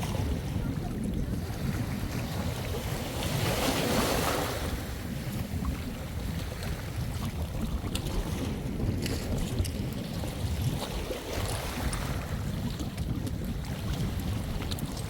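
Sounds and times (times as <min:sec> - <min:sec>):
small waves washing onto shore: 0:00.0 - 0:15.0
wind buffeting microphone: 0:00.0 - 0:15.0.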